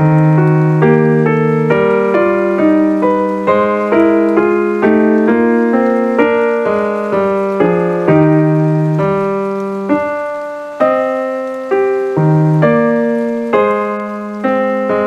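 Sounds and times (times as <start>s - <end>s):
piano melody: 0.0s - 15.0s
sustained piano chords: 0.0s - 15.0s.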